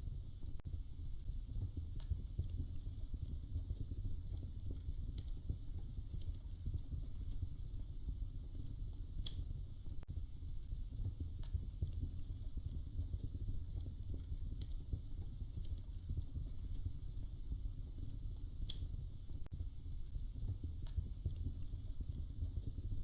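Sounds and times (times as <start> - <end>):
wood fire crackling: 0.0 - 23.0
sharp pops of fire: 1.6 - 7.5, 8.3 - 10.1, 10.9 - 19.5, 20.3 - 23.0.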